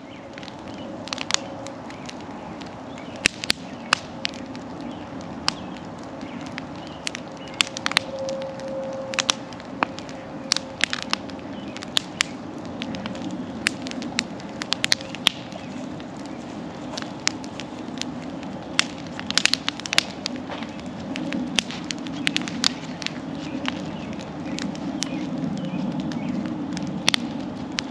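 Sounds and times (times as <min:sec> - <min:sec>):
bonfire crackling and popping: 0:00.0 - 0:27.9
low rush of flames: 0:00.0 - 0:27.9.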